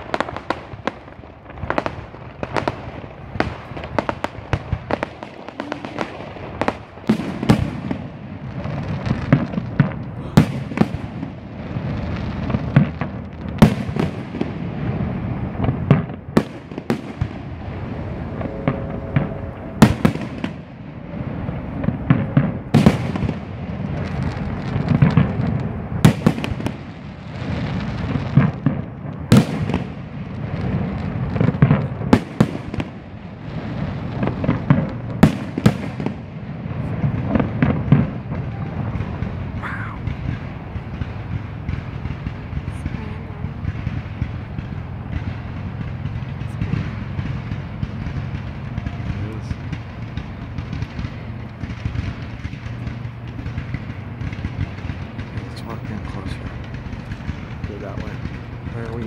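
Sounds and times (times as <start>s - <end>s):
fireworks bursting: 0.0s - 59.0s
low rumble: 0.7s - 13.6s, 14.2s - 35.2s, 35.9s - 59.0s.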